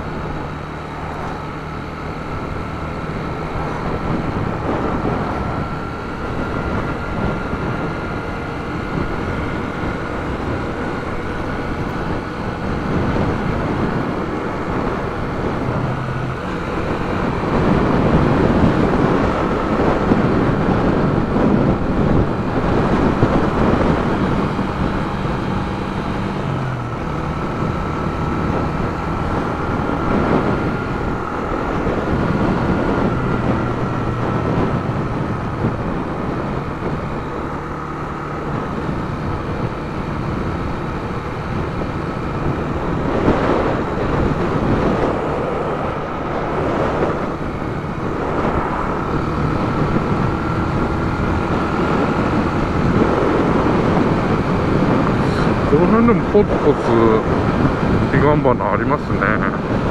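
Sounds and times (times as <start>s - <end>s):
motorcycle engine cruising: 0.0s - 59.9s
rushing wind noise: 0.0s - 59.9s.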